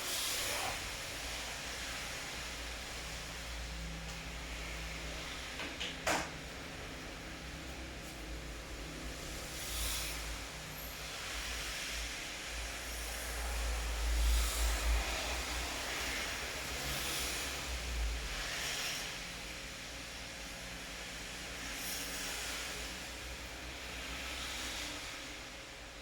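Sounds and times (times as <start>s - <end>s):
steady rain falling: 0.0s - 25.3s.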